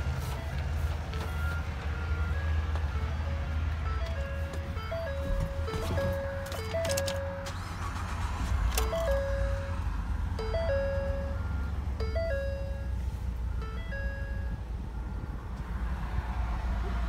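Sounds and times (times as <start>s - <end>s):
car engine idling: 0.0s - 17.0s
car warning chime: 0.2s - 15.6s.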